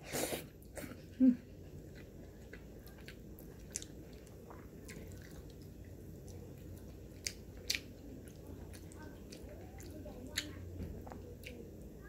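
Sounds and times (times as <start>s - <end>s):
low steady hum: 0.0s - 12.0s
person chewing food: 0.3s - 11.6s.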